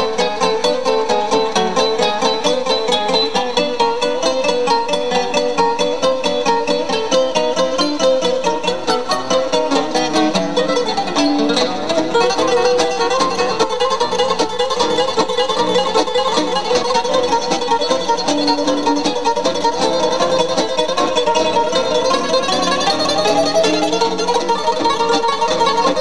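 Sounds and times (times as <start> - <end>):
acoustic guitars plucked: 0.0 - 26.0.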